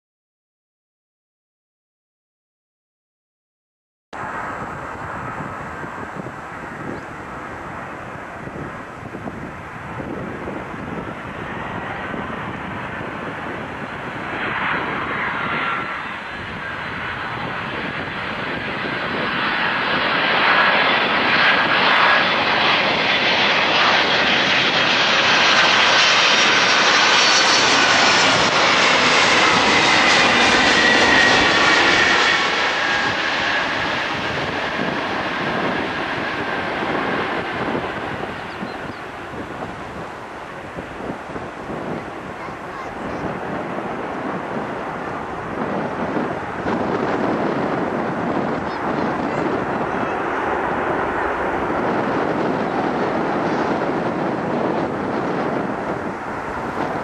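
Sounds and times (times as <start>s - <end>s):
jet aircraft passing by: 4.2s - 57.0s.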